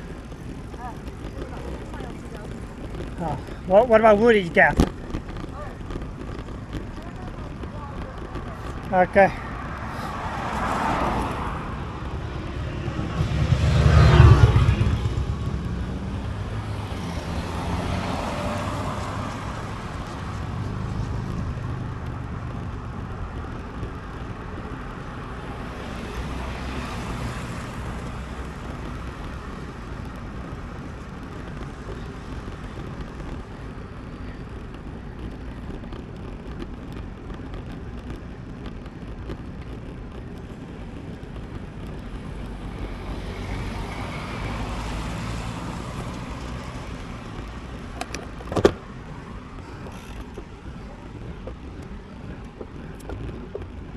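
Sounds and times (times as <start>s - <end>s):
road noise: 0.0s - 53.9s
vehicles passing: 0.0s - 53.9s.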